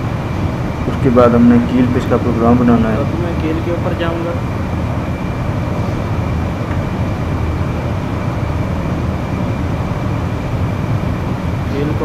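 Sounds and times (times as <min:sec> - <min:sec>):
high-pitched whine: 0:00.0 - 0:12.0
low rumbling hiss: 0:00.0 - 0:12.0.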